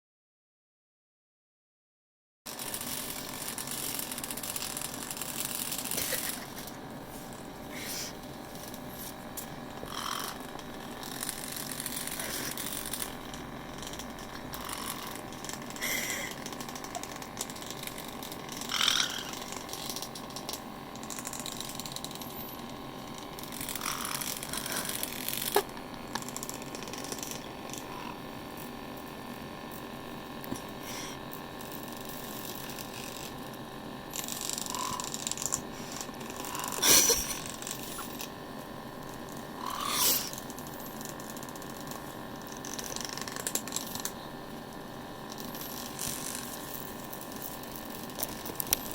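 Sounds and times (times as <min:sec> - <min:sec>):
massage machine humming: 0:02.5 - 0:48.9.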